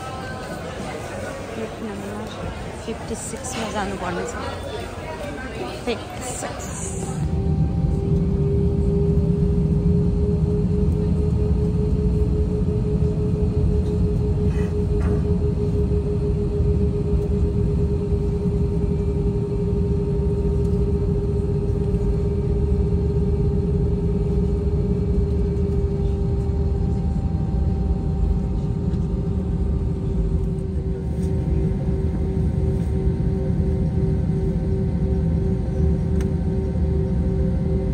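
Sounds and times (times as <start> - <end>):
airliner cabin rumble: 0.0 - 37.9
constant hum: 0.0 - 37.9.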